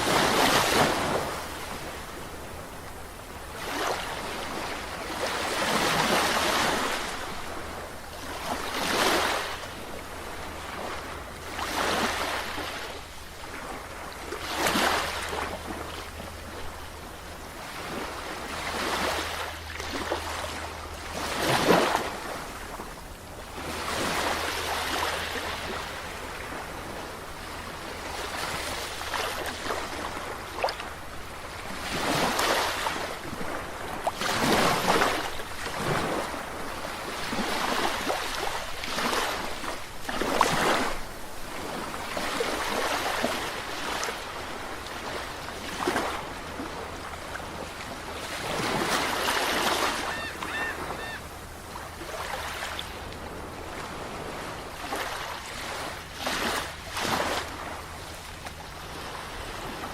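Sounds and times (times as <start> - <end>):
waves breaking and washing in: 0.0 - 59.9.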